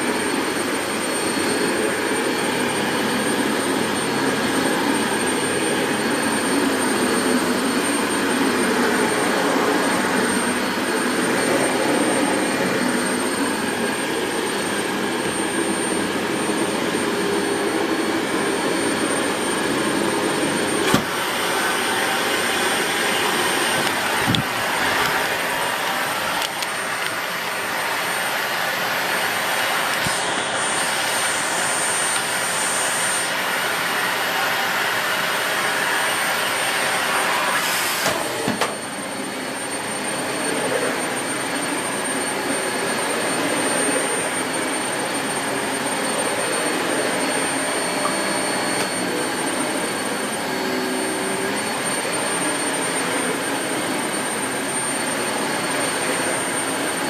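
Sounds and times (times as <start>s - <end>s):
vacuum cleaner running with whine: 0.0s - 57.0s.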